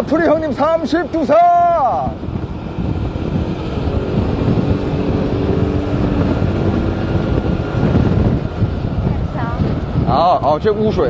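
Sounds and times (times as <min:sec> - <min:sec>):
car engine and road rumble: 0:00.0 - 0:11.0
wind buffeting microphone: 0:00.0 - 0:11.0.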